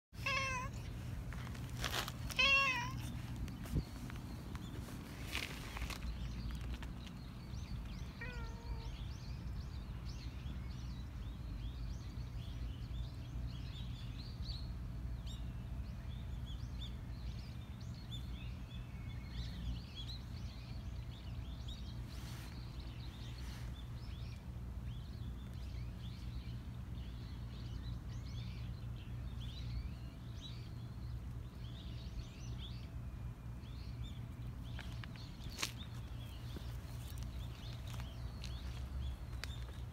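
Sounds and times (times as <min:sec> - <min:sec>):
low outdoor rumble: 0:00.2 - 0:39.9
small birds chirping: 0:00.2 - 0:39.9.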